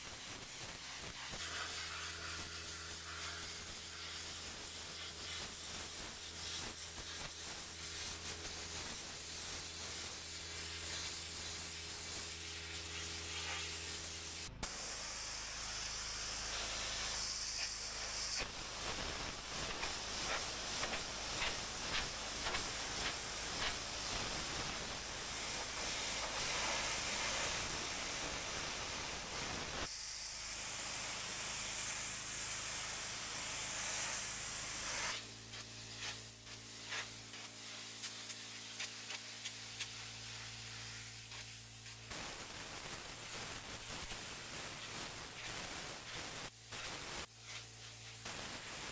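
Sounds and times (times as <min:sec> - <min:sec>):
pressure washer spray hissing: 0:00.0 - 0:48.9.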